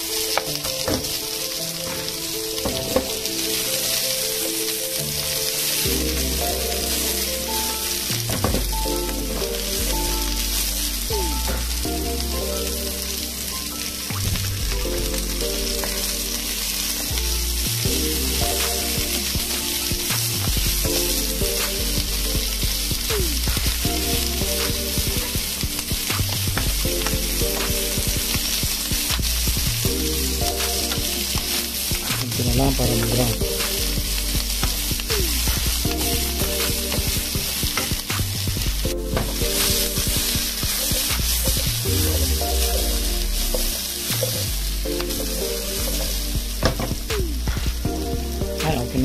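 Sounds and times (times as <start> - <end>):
background music with bass line: 0.0 - 49.0
onion and garlic sizzling in oil: 0.0 - 49.0.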